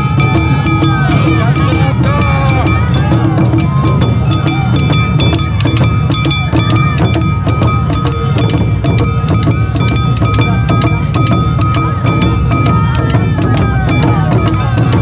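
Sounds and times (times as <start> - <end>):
clanging gongs: 0.0 - 15.0
shamisen: 0.0 - 15.0
taiko drums: 0.0 - 15.0.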